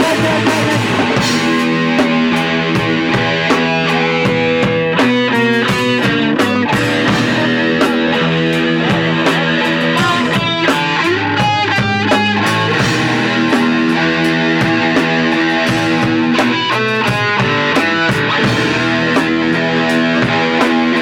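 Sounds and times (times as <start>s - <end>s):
distorted electric guitar chords: 0.0s - 21.0s
drum beat: 0.0s - 21.0s.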